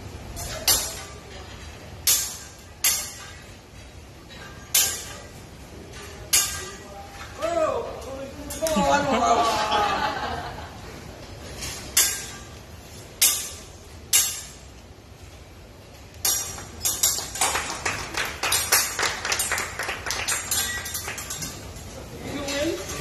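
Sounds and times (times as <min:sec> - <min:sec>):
metal utensils clanging on griddle: 0:00.3 - 0:09.8, 0:11.3 - 0:15.3, 0:16.0 - 0:23.0.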